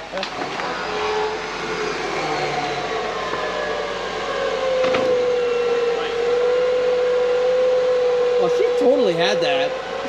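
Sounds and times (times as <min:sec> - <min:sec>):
electric winch motor whining: 0:00.0 - 0:10.0.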